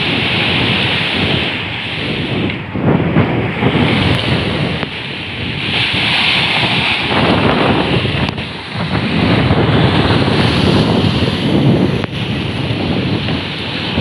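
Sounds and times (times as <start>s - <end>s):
rough sea surf breaking: 0.0s - 14.0s
wind buffeting microphone: 0.0s - 14.0s.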